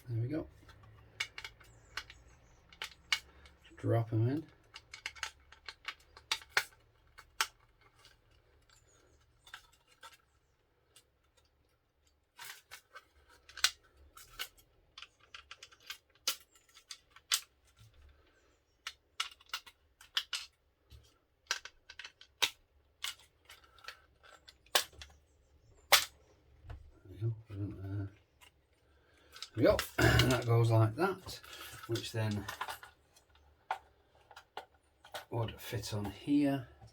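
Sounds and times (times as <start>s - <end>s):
small plastic parts clicking: 0.5s - 26.9s, 27.5s - 36.9s.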